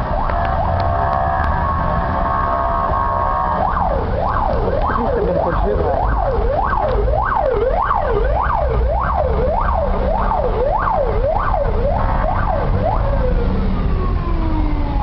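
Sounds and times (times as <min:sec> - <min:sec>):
fire engine siren wailing: 0:00.0 - 0:15.0
low rumble of engines and traffic: 0:00.0 - 0:15.0.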